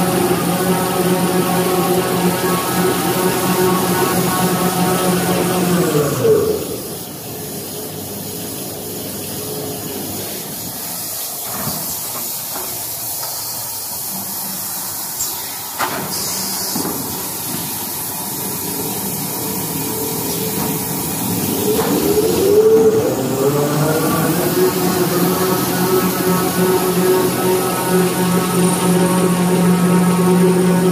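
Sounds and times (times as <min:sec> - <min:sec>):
machinery running with steady hiss: 0:00.0 - 0:30.9.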